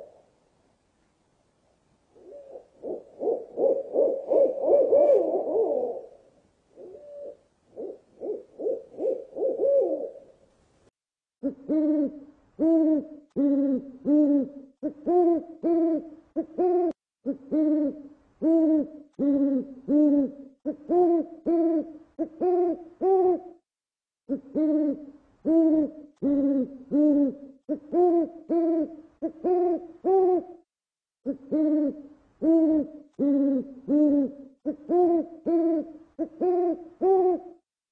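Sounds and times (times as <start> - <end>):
owl hooting: 2.2 - 10.3, 11.4 - 23.6, 24.3 - 30.6, 31.2 - 37.6.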